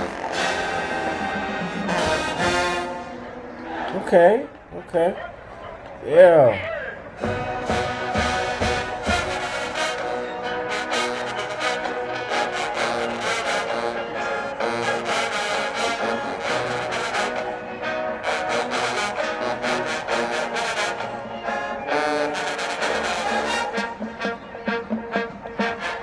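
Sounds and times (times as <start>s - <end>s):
brass horns playing melody: 0.0s - 3.7s, 7.1s - 26.0s.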